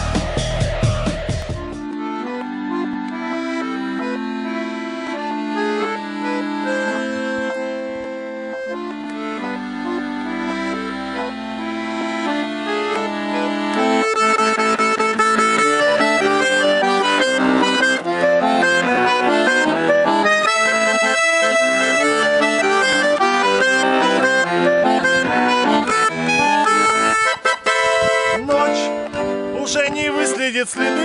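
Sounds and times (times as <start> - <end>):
button accordion playing: 0.0 - 31.0.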